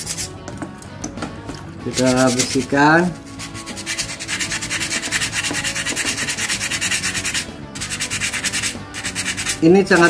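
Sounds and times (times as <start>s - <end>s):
sandpaper rasping on steel blade: 0.0s - 0.4s, 1.9s - 10.0s.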